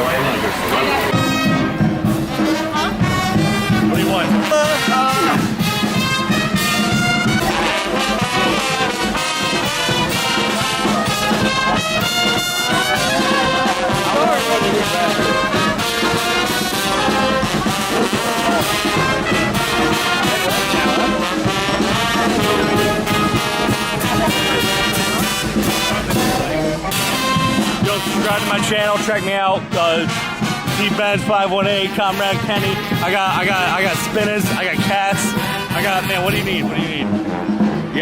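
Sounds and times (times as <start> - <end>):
brass band playing: 0.0 - 38.0
steady drum beat: 0.6 - 38.0.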